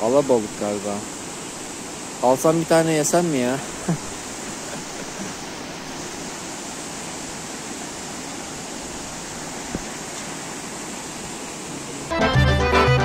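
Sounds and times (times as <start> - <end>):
stream rushing over cascades: 0.0 - 13.0.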